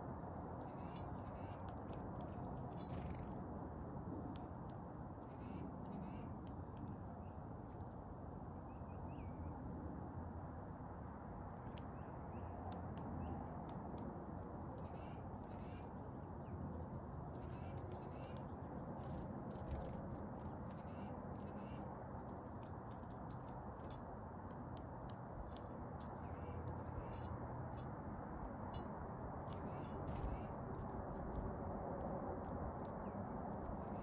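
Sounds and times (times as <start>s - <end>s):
songbirds chipping and whistling: 0.5s - 3.4s, 4.2s - 10.2s, 10.8s - 21.9s, 22.6s - 28.0s, 28.6s - 30.9s, 32.9s - 34.0s.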